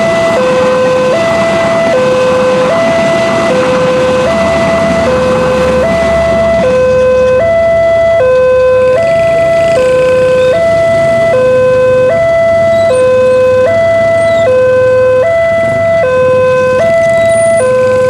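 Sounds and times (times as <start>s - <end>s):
level crossing two-tone alarm: 0.0s - 18.0s.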